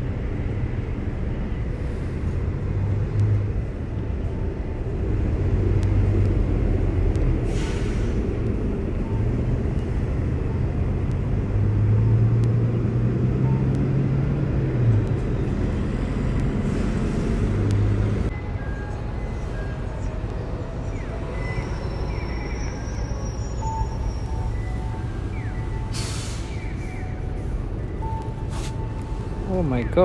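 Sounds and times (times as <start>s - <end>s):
traffic rumble: 0.0s - 30.0s
vehicle engine hum: 0.0s - 30.0s.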